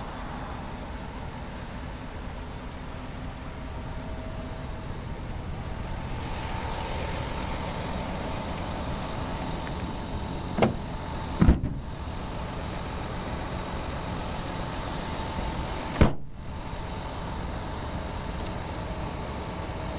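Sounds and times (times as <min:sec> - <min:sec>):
pickup truck engine idling: 0:00.0 - 0:19.9.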